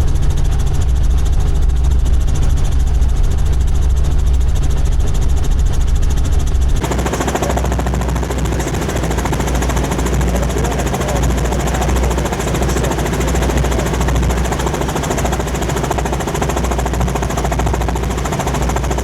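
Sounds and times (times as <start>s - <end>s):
helicopter rotor blades beating: 0.0s - 19.0s
low engine drone: 0.0s - 19.0s.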